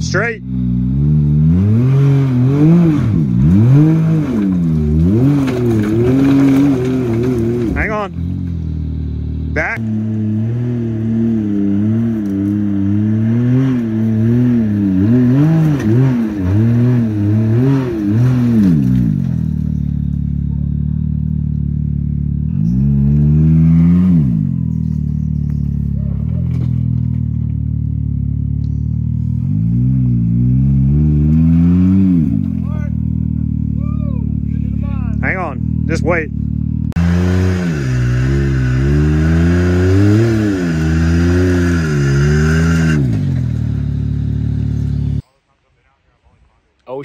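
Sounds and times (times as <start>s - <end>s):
off-road vehicle engine revving: 0.0s - 45.2s.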